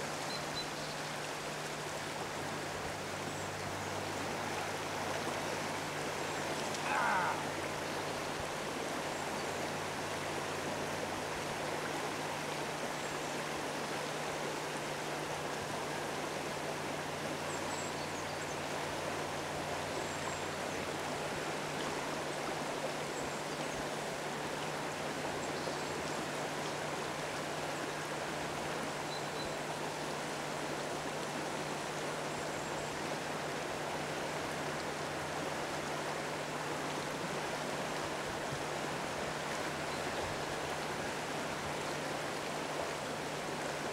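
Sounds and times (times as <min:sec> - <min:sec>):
river running over gravel: 0:00.0 - 0:43.9.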